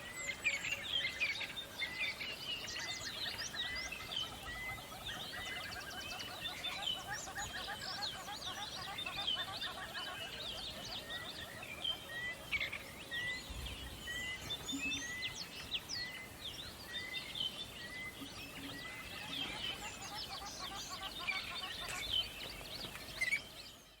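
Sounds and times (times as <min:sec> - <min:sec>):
birds chirping and twittering: 0:00.0 - 0:24.0.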